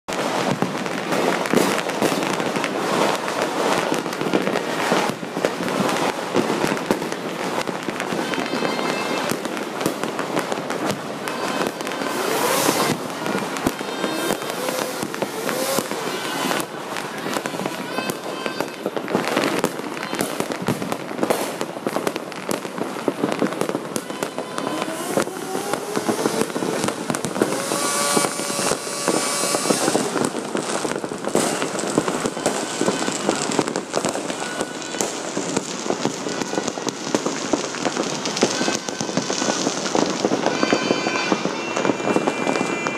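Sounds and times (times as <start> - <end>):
fireworks crackling and banging: 0.1 - 42.9.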